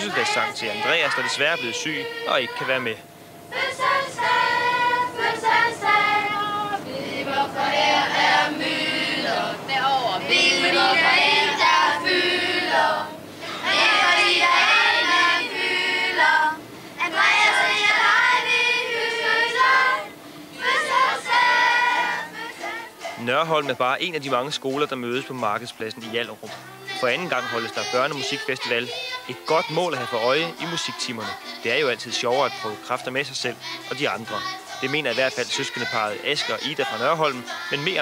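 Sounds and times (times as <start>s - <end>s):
children singing: 0.0s - 23.2s, 26.6s - 38.0s.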